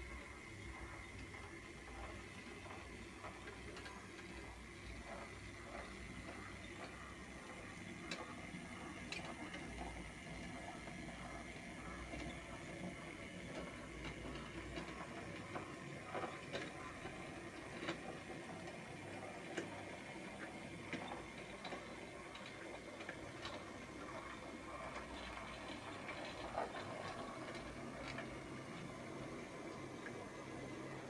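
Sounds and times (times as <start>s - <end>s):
faint steady hum: 0.0s - 31.0s
model train wheels clicking: 0.0s - 31.0s.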